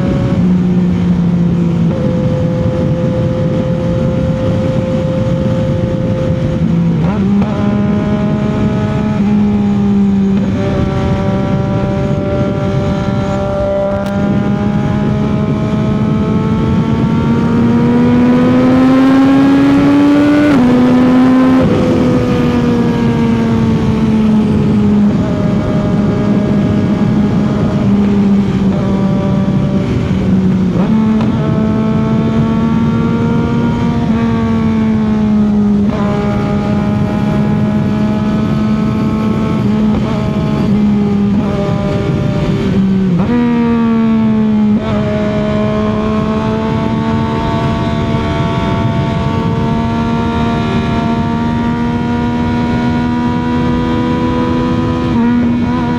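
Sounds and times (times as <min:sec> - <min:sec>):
motorcycle engine cruising: 0:00.0 - 0:55.9
wind noise: 0:00.0 - 0:55.9.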